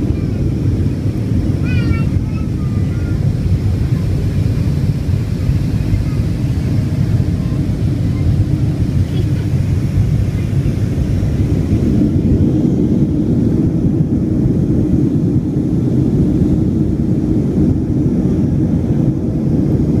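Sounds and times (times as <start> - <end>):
jet engines roaring in cabin: 0.0 - 20.0
rushing air: 0.0 - 20.0.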